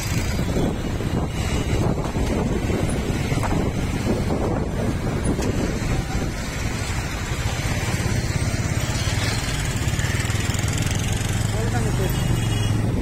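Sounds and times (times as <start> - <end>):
wind noise on microphone: 0.0 - 11.4, 12.5 - 13.0
motorbike engine running: 0.0 - 13.0
street traffic: 0.0 - 13.0.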